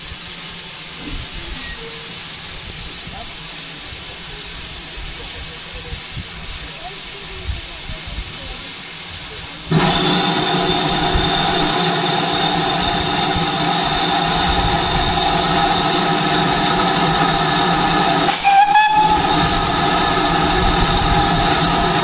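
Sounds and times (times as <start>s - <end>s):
steam locomotive rush of steam: 0.0s - 22.0s.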